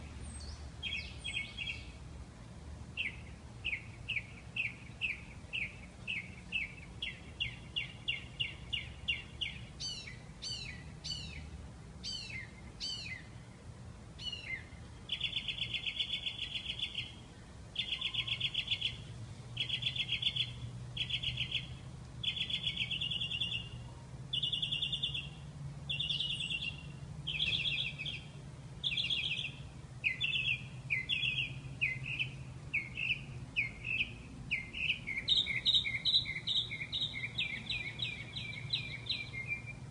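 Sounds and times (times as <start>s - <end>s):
faint low hum: 0.0s - 39.9s
songbird singing: 0.0s - 39.9s.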